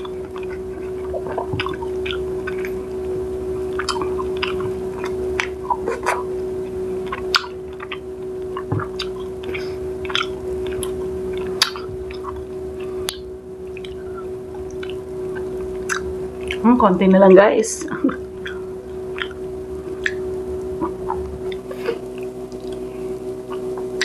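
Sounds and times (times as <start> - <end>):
wet chewing: 0.0 - 6.3, 7.0 - 16.7, 18.2 - 22.9
steady low hum: 0.0 - 24.0.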